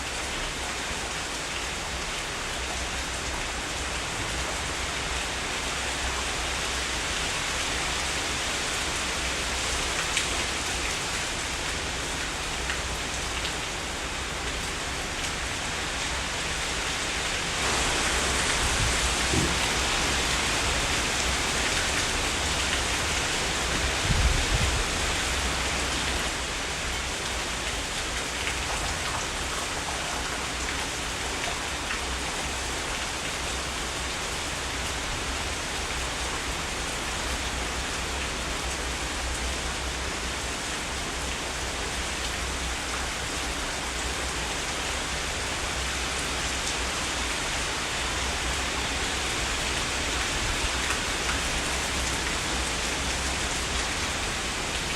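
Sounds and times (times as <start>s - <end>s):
heavy rain downpour: 0.0s - 54.9s.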